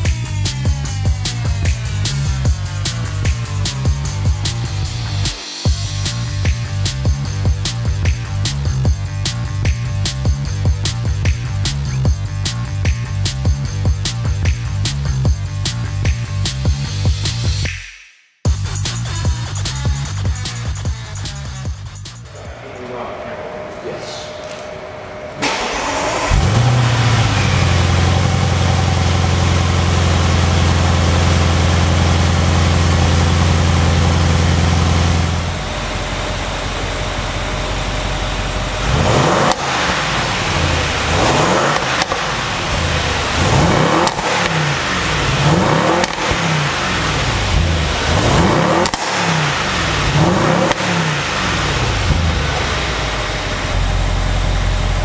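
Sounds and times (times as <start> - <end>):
car engine idling and revving: 0.0 - 17.7, 18.5 - 55.0.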